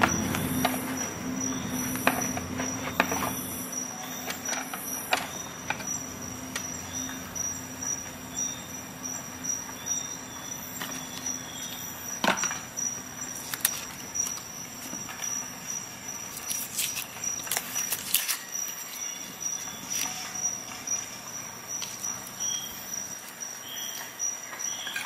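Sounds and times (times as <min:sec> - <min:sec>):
steady low hum: 0:00.0 - 0:24.8
faint high whine: 0:00.0 - 0:25.0.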